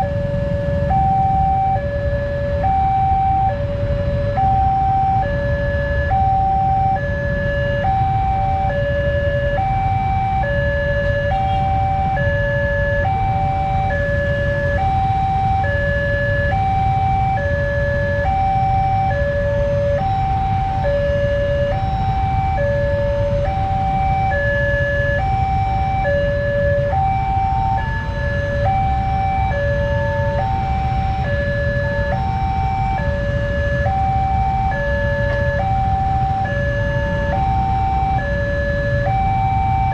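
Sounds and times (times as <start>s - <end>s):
railroad crossing alarm warbling: 0.0s - 39.9s.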